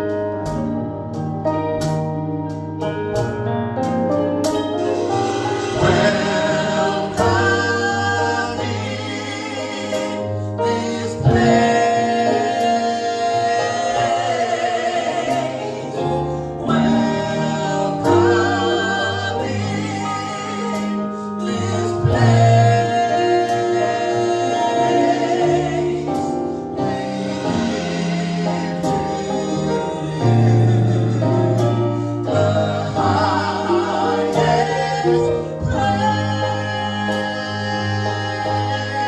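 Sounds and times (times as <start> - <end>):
gospel choir singing with band: 1.8 - 39.0.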